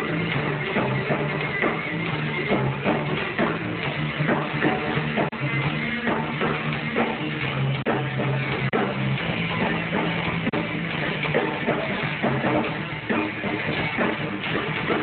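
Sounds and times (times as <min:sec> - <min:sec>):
bass guitar: 0:00.0 - 0:15.0
distorted electric guitar: 0:00.0 - 0:15.0
drum kit: 0:00.0 - 0:15.0.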